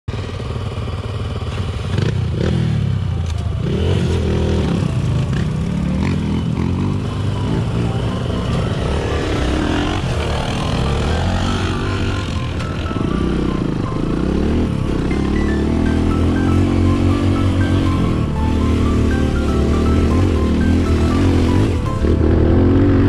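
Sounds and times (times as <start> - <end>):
motorcycle engine revving: 0.1 - 23.0.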